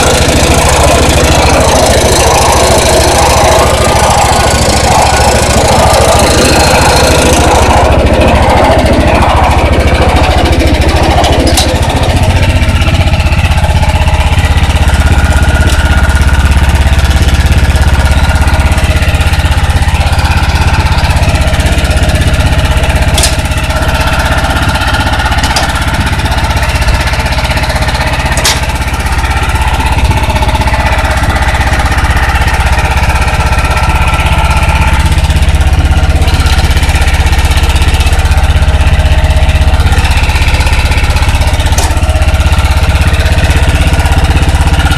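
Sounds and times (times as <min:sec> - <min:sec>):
snowblower engine running: 0:00.0 - 0:44.9.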